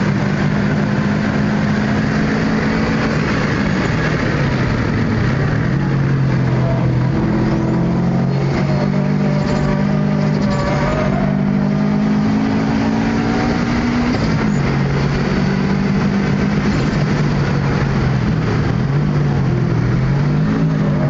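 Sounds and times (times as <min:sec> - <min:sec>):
turbocharged car engine revving: 0:00.0 - 0:21.0.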